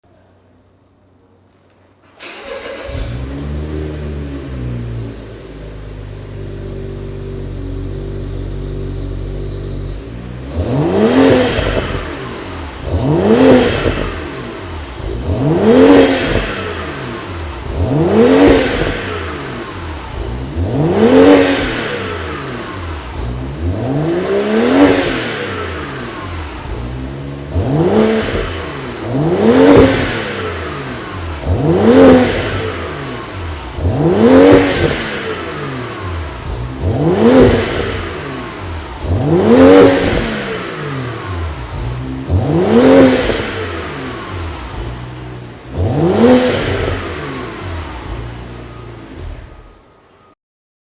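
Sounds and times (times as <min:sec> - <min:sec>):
car engine idling and revving: 0:00.1 - 0:50.4.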